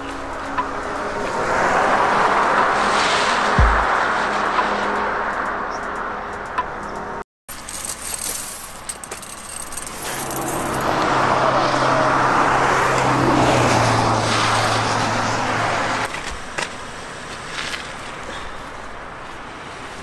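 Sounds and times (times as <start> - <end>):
tyre noise on road: 0.0 - 20.0
vehicle engine hum: 0.0 - 20.0.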